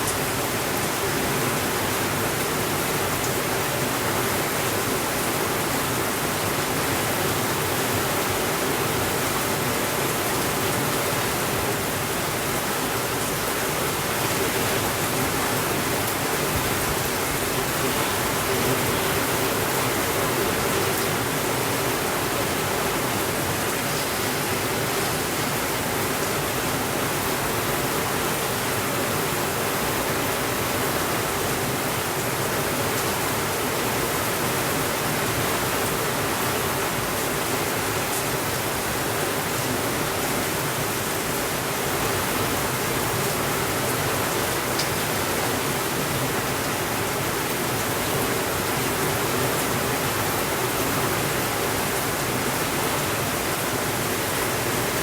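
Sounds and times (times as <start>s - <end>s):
heavy rain on a window: 0.0s - 55.0s.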